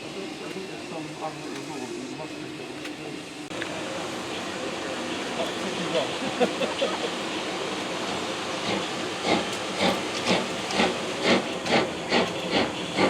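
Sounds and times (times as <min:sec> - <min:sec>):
steam locomotive chuffing: 0:00.0 - 0:13.0
steam locomotive hissing: 0:00.0 - 0:13.0.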